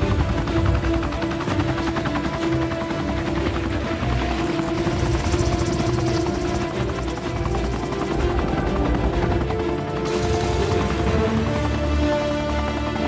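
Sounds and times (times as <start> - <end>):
held orchestral music tones: 0.0 - 13.0
helicopter rotor chopping: 0.0 - 13.0.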